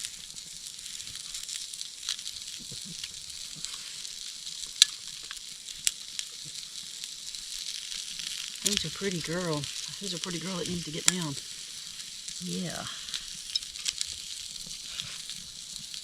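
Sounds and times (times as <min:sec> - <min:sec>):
burger sizzling with pops: 0:00.0 - 0:16.0.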